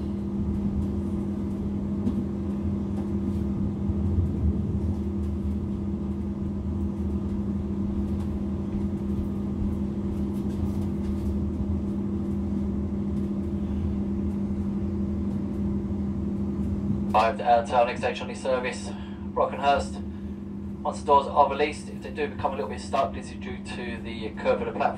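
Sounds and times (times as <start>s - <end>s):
train electrical hum: 0.0s - 24.9s.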